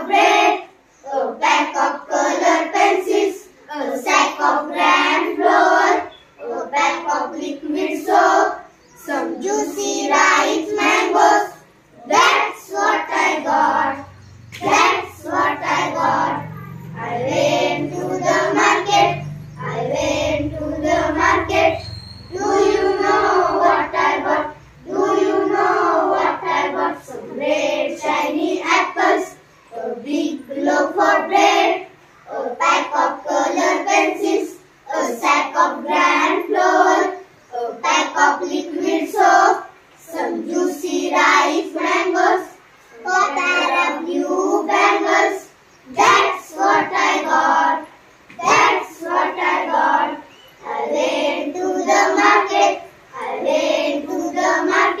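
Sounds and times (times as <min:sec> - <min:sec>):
girls singing in unison: 0:00.0 - 0:55.0.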